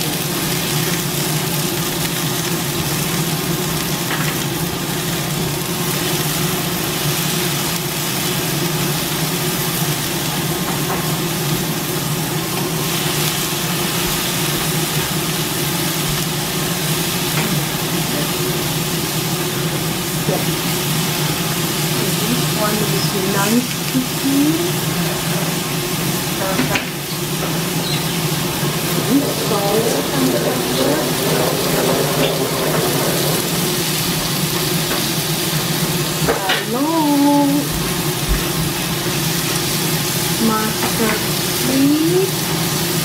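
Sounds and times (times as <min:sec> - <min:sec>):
food sizzling in hot oil: 0:00.0 - 0:43.0.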